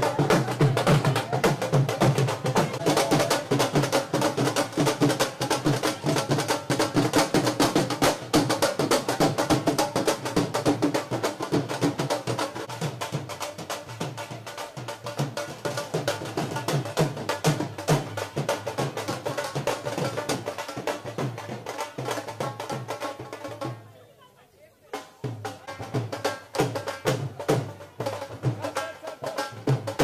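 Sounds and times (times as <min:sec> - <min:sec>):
dhol drums beating: 0:00.0 - 0:23.9, 0:24.8 - 0:30.0.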